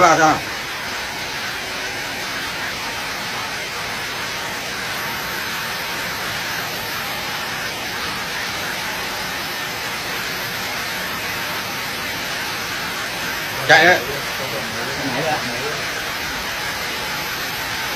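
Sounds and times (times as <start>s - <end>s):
machine hissing: 0.0s - 17.9s.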